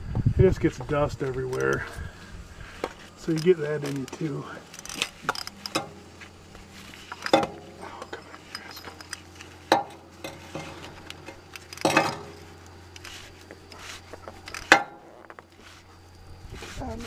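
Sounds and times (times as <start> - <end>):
low steady hum: 0.0 - 17.0
light rattling: 0.9 - 17.0.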